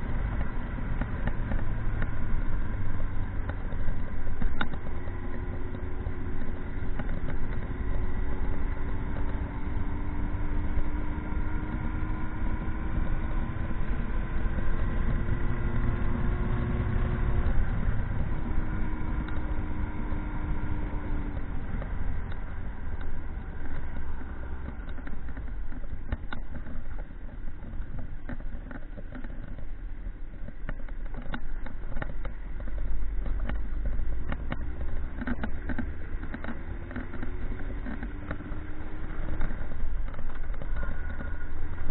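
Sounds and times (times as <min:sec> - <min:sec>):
motorcycle engine running: 0:00.0 - 0:41.9
road noise: 0:00.0 - 0:41.9
wind rumble: 0:00.0 - 0:41.9
scattered clicks: 0:00.1 - 0:09.8, 0:17.3 - 0:41.9.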